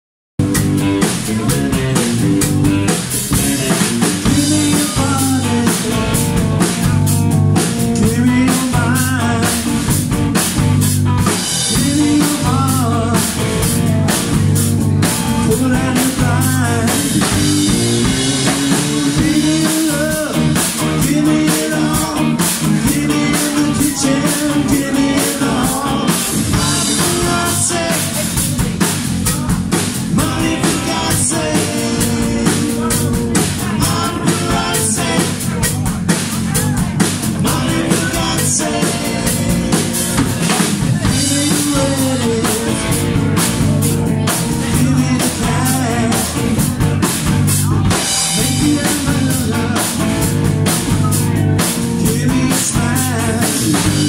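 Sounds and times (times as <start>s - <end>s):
bass guitar: 0.4s - 54.0s
drum kit beat: 0.4s - 54.0s
electric guitar: 0.4s - 54.0s
person singing: 0.5s - 2.6s, 3.3s - 7.0s, 7.6s - 10.6s, 11.2s - 54.0s.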